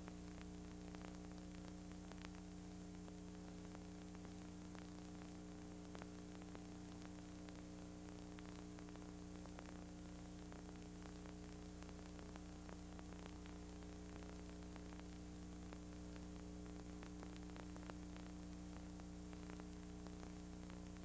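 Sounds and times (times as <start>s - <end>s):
low electrical hum: 0.0s - 21.0s
tape hiss: 0.0s - 21.0s.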